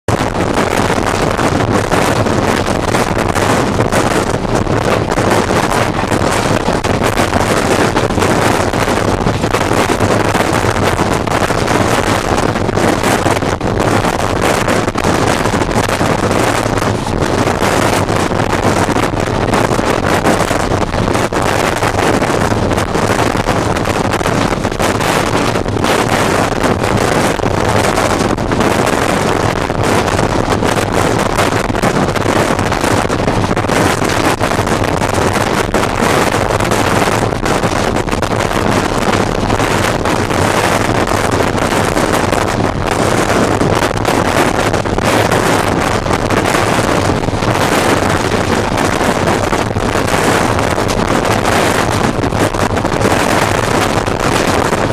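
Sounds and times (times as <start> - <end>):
wind rushing on microphone: 0.0 - 54.9.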